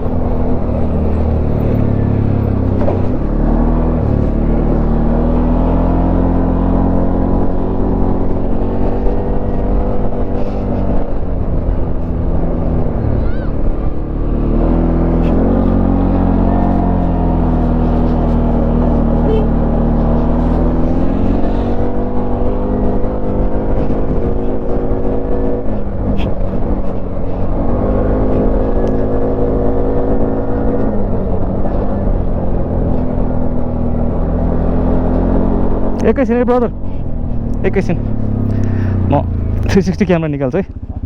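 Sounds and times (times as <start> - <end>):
atv engine running: 0.0 - 41.0.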